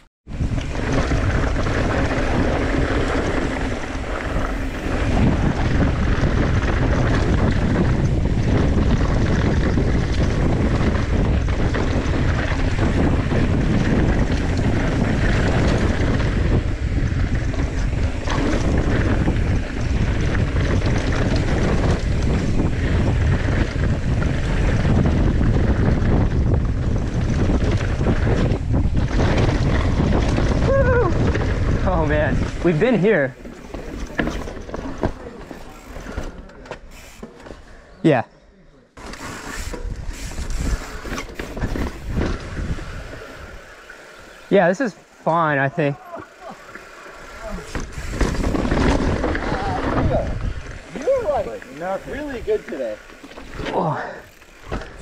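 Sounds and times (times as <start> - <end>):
wind buffeting microphone: 0.3 - 36.4, 39.1 - 55.0
tyres rumbling on dirt: 0.3 - 37.7, 39.0 - 55.0.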